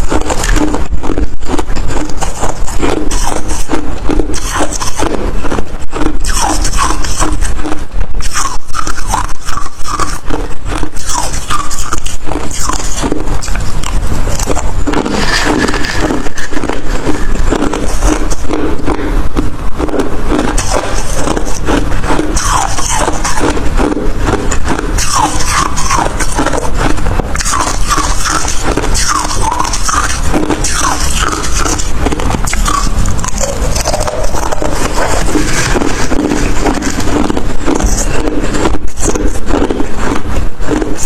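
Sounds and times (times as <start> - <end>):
crushed ice crunching while chewed: 0.0 - 41.0.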